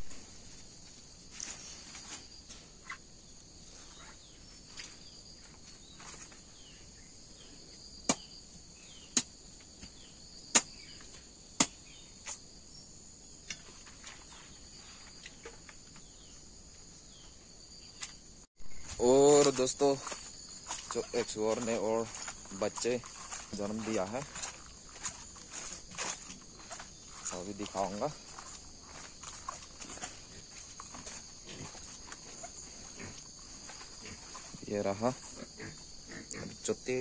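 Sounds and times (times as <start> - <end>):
insect chorus chirring: 0.0 - 37.0.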